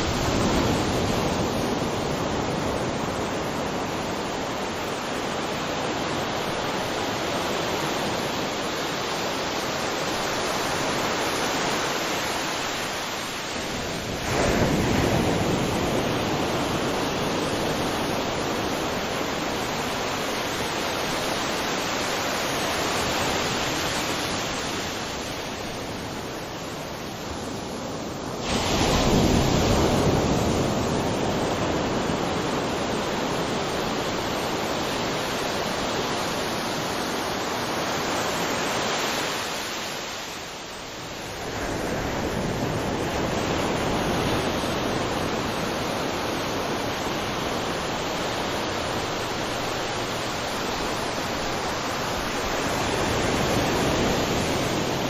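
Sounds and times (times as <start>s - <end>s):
ocean waves on beach: 0.0s - 55.0s.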